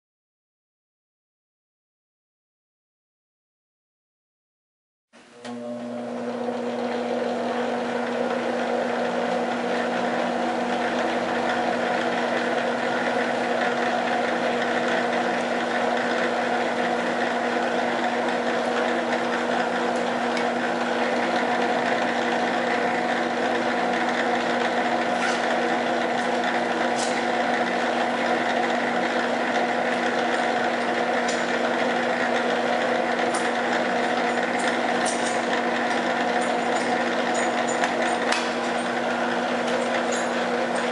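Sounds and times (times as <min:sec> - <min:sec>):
lathe motor and gear hum: 0:05.4 - 0:40.9.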